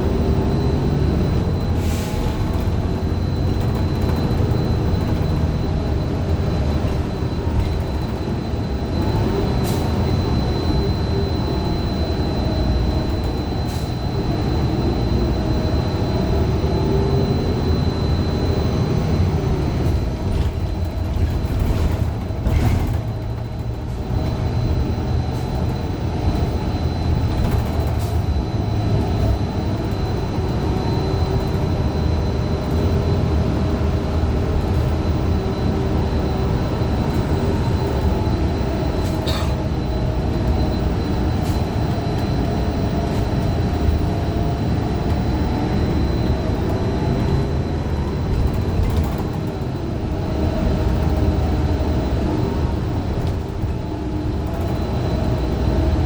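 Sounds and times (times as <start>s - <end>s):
bus engine and road rumble: 0.0s - 56.0s
transmission whine: 0.0s - 56.0s.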